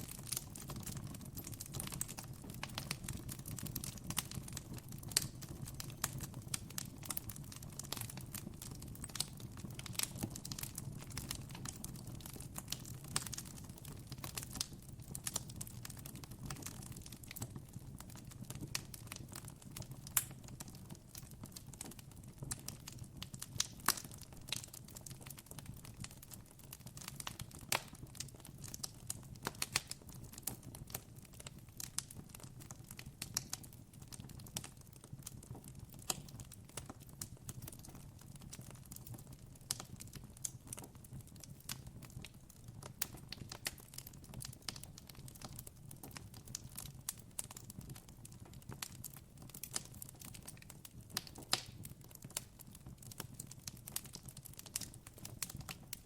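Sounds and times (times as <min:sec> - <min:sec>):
campfire crackling: 0:00.0 - 0:17.6, 0:18.2 - 0:56.0.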